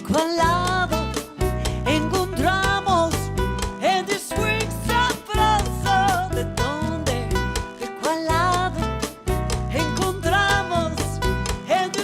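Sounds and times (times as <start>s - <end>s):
latin band bass and guitar: 0.0s - 12.0s
person singing: 0.0s - 12.0s.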